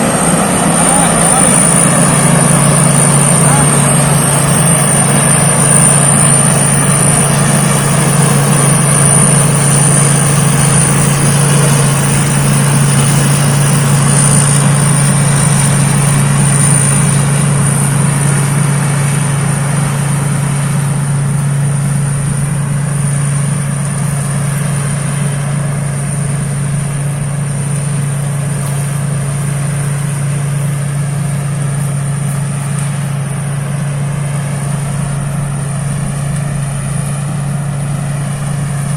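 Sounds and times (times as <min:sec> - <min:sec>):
engine hum: 0:00.0 - 0:38.9
high-pitched whine: 0:00.0 - 0:38.9.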